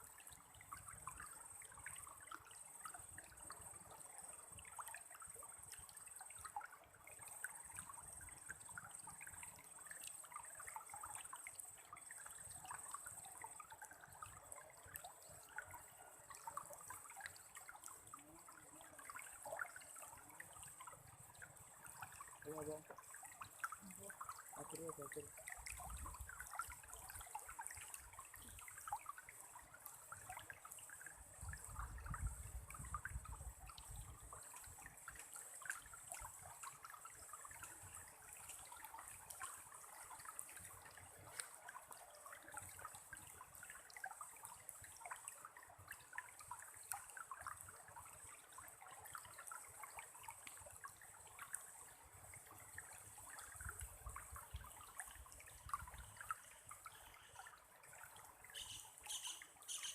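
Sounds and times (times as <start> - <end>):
faint water trickling: 0.0 - 59.9.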